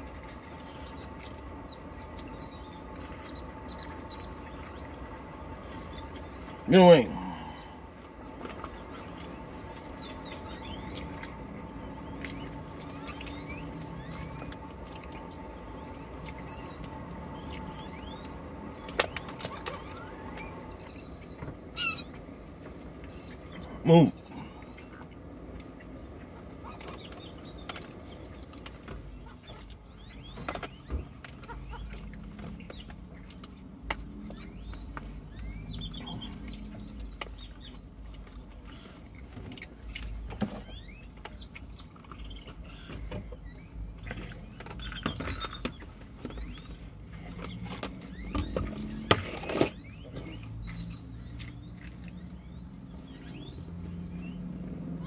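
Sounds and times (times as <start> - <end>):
birds chirping: 0.0 - 55.0
chewing with wet clicks: 0.1 - 6.6, 7.6 - 20.5, 24.6 - 54.9.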